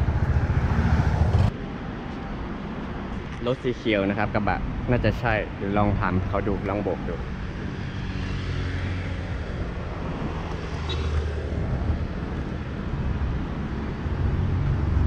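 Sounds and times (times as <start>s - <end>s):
vehicle engine humming: 0.0s - 3.4s, 5.5s - 15.0s.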